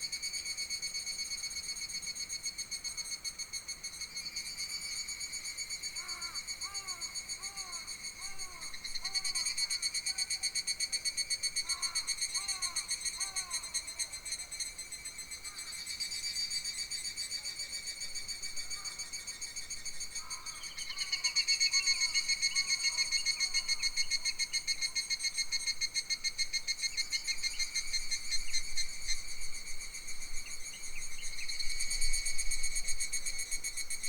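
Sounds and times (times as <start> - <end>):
insect chorus: 0.0 - 34.0.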